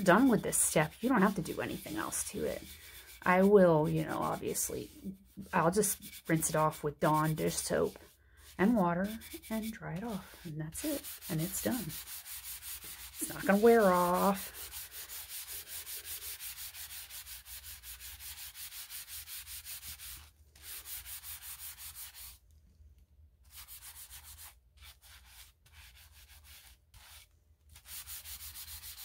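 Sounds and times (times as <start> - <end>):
paper towel scrubbing gritty rubbing: 0.0 - 22.4, 23.4 - 29.0.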